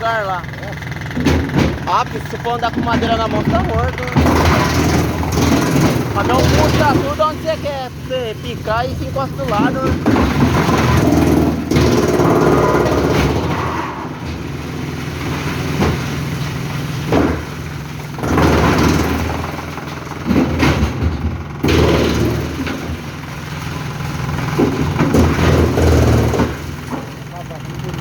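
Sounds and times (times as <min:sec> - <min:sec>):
wood chipper running: 0:00.0 - 0:28.0.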